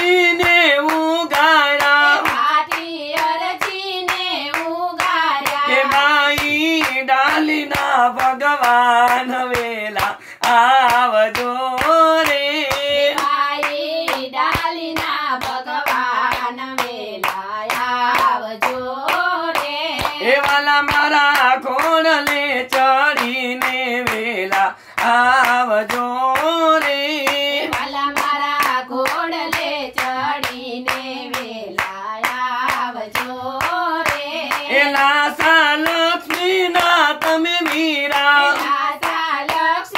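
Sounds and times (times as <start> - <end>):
hand-clapping on the beat: 0.0 - 39.9
people singing in unison: 0.0 - 39.9.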